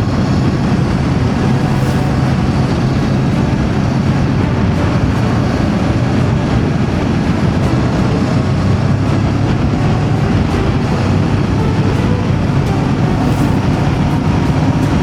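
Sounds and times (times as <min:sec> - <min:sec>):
motorcycle engine cruising: 0:00.0 - 0:15.0
wind rushing: 0:00.0 - 0:15.0.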